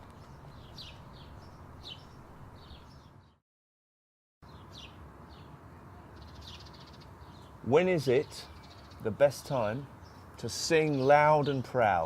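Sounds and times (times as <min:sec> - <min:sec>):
small birds chirping: 0:00.0 - 0:03.4, 0:04.4 - 0:12.0.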